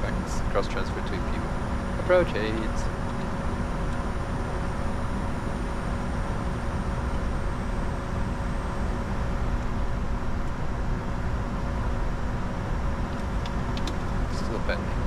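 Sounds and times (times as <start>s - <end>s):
faint high whine: 0.0s - 15.0s
faint steady tones: 0.0s - 15.0s
jet cockpit rushing hum: 0.0s - 15.0s.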